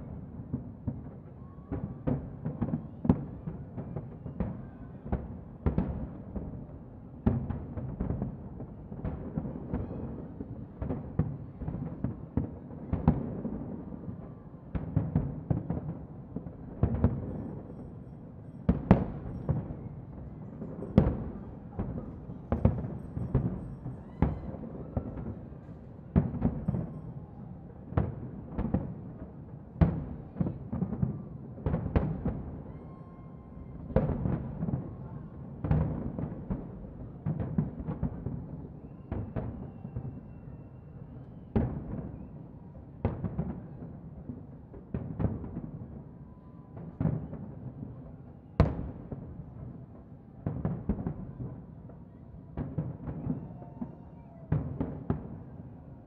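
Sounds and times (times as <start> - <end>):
fireworks booming and cracking: 0.0 - 40.5, 41.1 - 42.3, 43.0 - 55.9.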